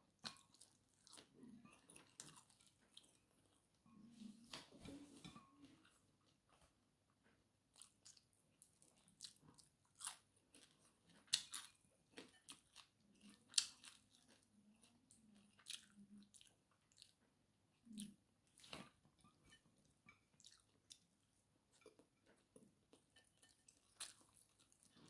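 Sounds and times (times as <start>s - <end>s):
person chewing food: 0.1s - 6.8s, 7.6s - 25.0s.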